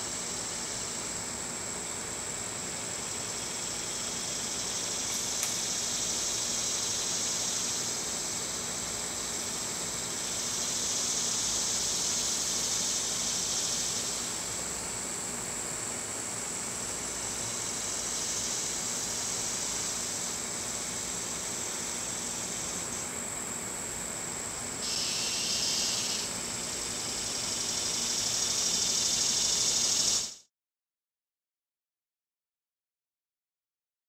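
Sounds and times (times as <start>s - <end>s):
air conditioner droning: 0.0s - 30.4s
cicadas and crickets chirring: 0.0s - 30.5s.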